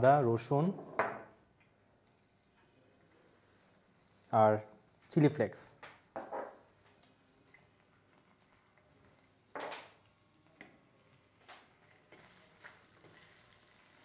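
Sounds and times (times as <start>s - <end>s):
aromatics frying in oil: 1.4s - 14.0s.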